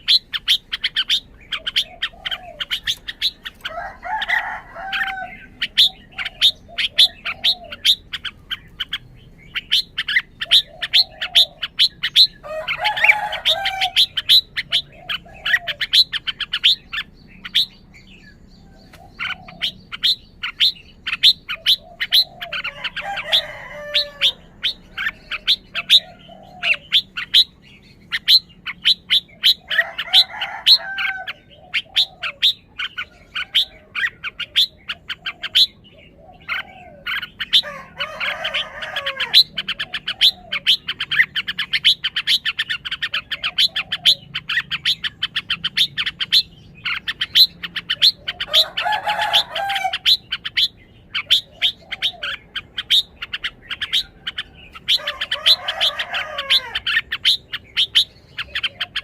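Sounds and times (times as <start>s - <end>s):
bird chirping: 0.0s - 59.0s
warbled bird song: 0.0s - 59.0s.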